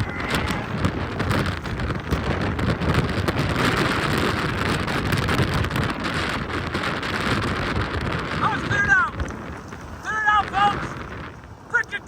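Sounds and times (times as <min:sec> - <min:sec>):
road noise: 0:00.0 - 0:12.0
wind rushing: 0:00.0 - 0:12.0.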